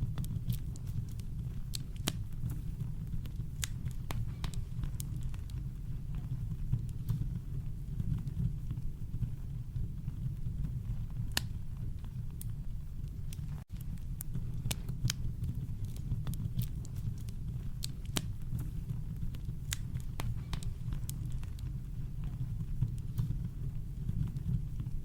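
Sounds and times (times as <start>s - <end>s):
campfire crackling and popping: 0.0s - 25.0s
low fire rumble: 0.0s - 25.0s.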